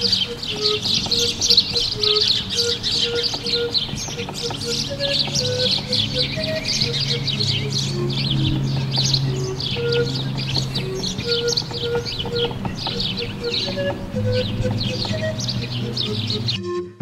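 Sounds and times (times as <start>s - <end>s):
birds chirping: 0.0s - 16.6s
short lower bird notes: 0.0s - 16.6s.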